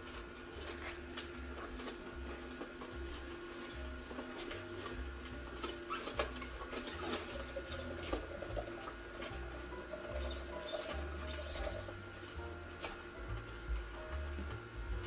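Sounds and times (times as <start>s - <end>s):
juicer motor hum: 0.0s - 15.0s.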